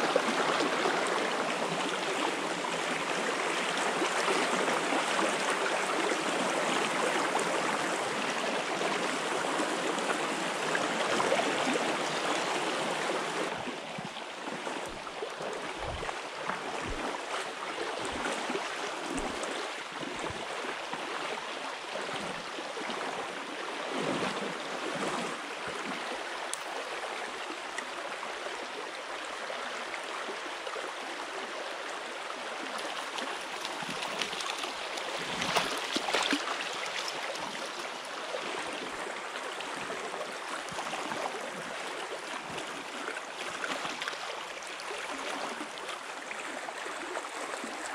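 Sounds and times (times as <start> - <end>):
stream running over stones: 0.0 - 47.9.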